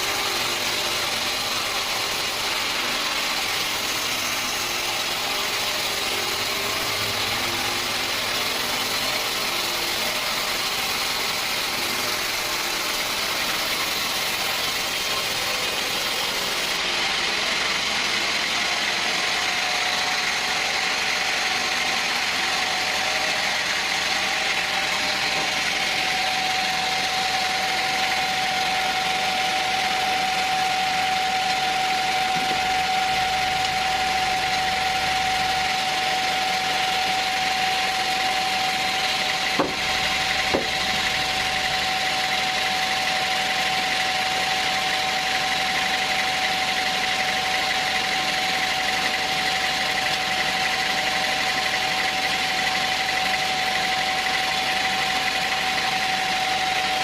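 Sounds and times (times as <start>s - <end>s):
sawmill machinery running: 0.0s - 57.0s
steady whine: 0.0s - 57.0s.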